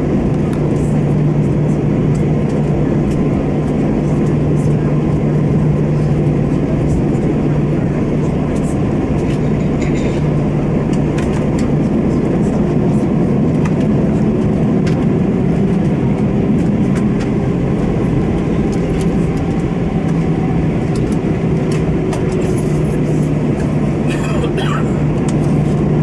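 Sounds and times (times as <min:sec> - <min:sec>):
jet engines idling in cabin: 0:00.0 - 0:26.0.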